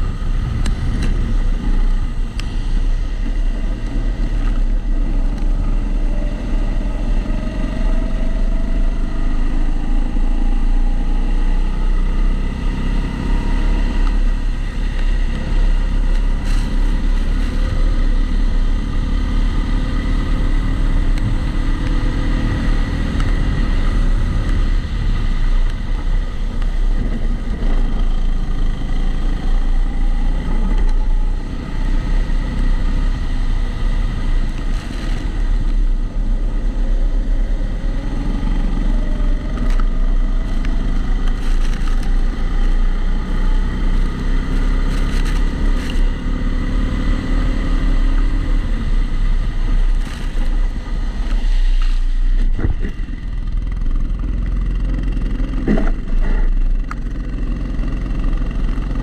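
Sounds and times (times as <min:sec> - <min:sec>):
heavy rumble from camera housing: 0:00.0 - 0:59.0.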